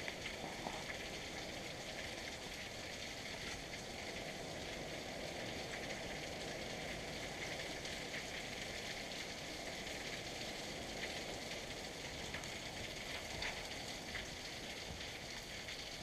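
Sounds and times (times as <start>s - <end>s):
heavy rain on trees and ground: 0.0s - 16.0s
sharp raindrop ticks: 0.0s - 16.0s.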